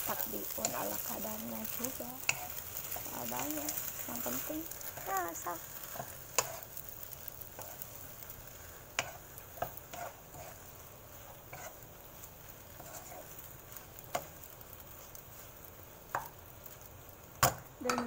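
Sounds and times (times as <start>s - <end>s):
faint sizzle: 0.0s - 18.0s
spatula stirring vegetables in a wok: 0.0s - 18.0s.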